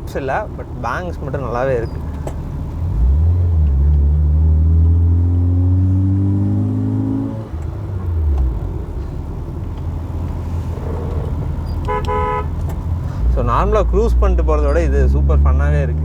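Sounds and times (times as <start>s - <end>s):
car engine and exhaust accelerating: 0.6s - 16.0s.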